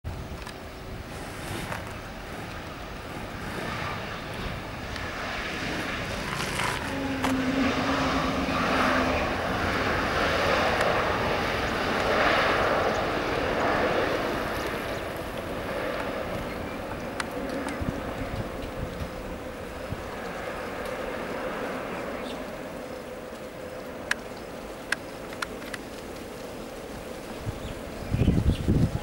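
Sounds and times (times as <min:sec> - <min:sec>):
steady low hum: 0:00.1 - 0:28.2
jet engines rushing: 0:00.1 - 0:29.0.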